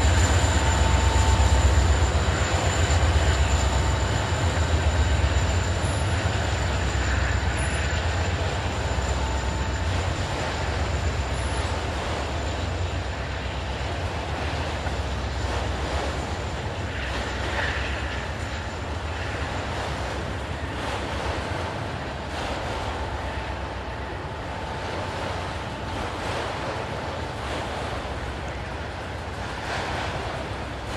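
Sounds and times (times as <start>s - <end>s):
freight train rumbling past: 0.0s - 30.9s
rail and wheel noise: 0.0s - 30.9s.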